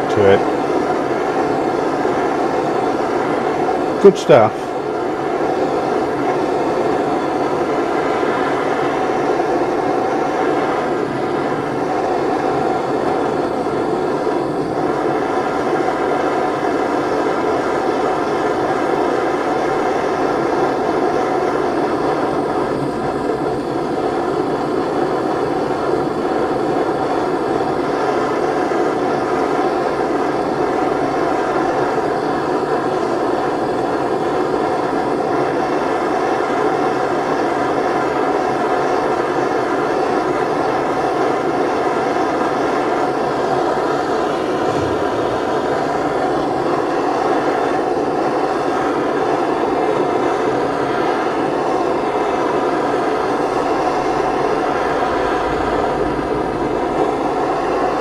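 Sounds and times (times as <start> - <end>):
blowtorch flame rushing: 0.0 - 58.0.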